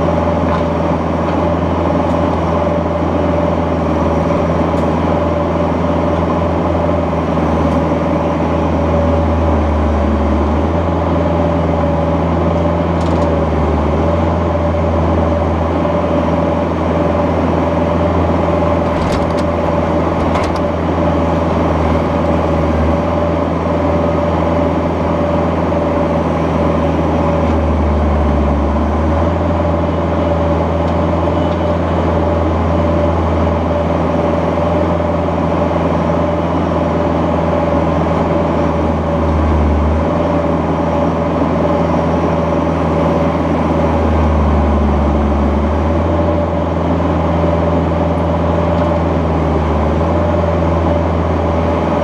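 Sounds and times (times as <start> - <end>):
diesel excavator engine running: 0.0 - 52.0
steady whine: 0.0 - 52.0.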